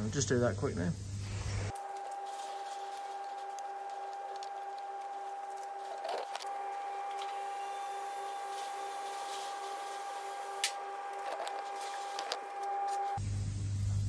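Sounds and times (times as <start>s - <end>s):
machine hum: 0.9s - 14.0s
high steady tone: 1.7s - 13.2s.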